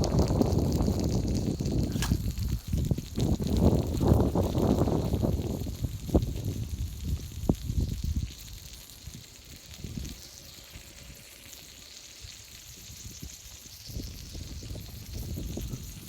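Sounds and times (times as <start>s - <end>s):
wind rumble on microphone: 0.0s - 11.3s, 12.2s - 16.0s
food sizzling on iron griddle: 0.0s - 16.0s.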